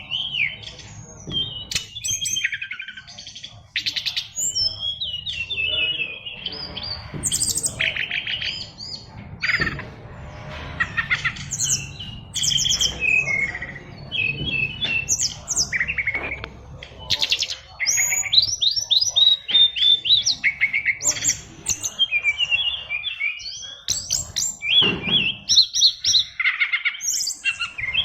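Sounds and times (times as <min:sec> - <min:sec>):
bird singing chirps and trills: 0:00.0 - 0:28.0.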